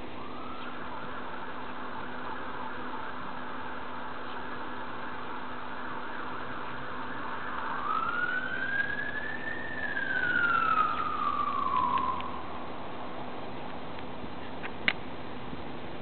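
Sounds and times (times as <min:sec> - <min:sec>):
distant siren wailing: 0:00.0 - 0:14.4
steady background noise: 0:00.0 - 0:16.0.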